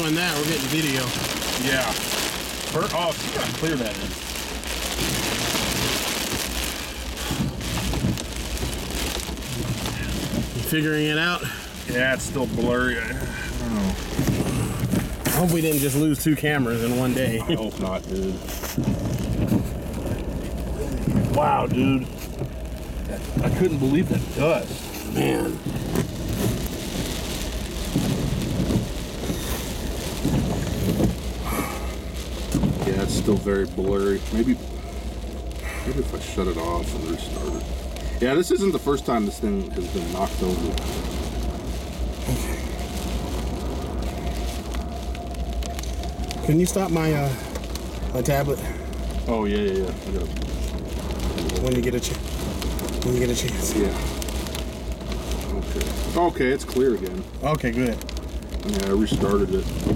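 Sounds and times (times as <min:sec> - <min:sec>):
heavy rain: 0:00.0 - 0:59.9
strong wind: 0:00.0 - 0:59.9.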